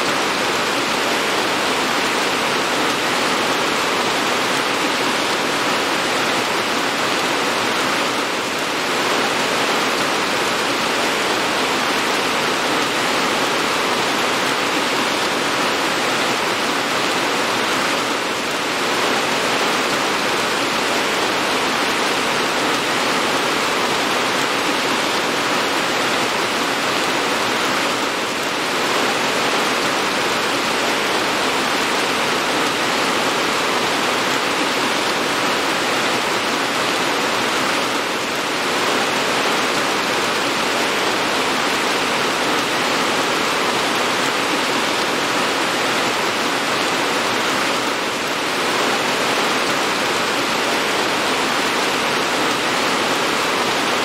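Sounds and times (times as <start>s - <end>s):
dense rain hiss: 0.0s - 54.0s.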